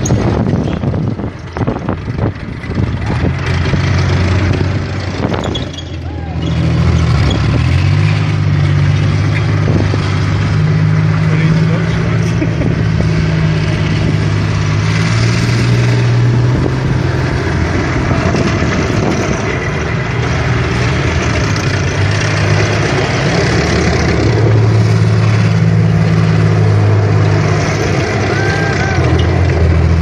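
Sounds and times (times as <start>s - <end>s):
tracked vehicle diesel engine: 0.0s - 30.0s.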